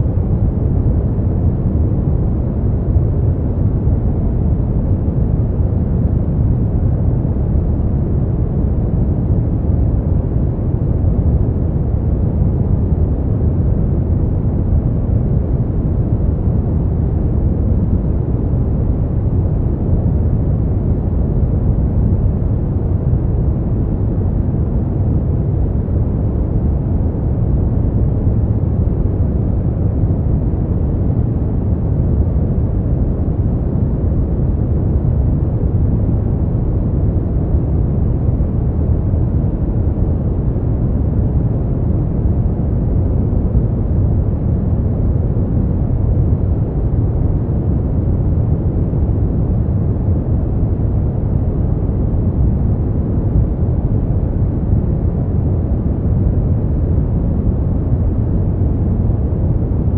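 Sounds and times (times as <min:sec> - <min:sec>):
brown noise: 0:00.0 - 0:59.9.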